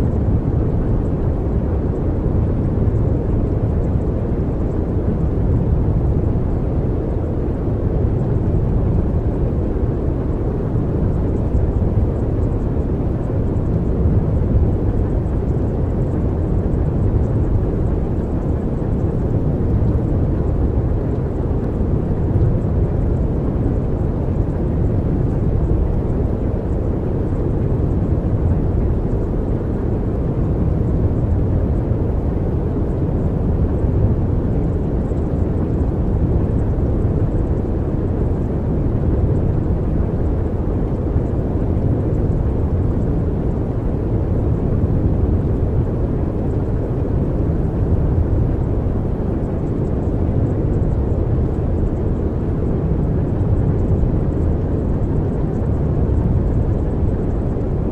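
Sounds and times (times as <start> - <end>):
steady low rumbling noise: 0.0 - 57.9.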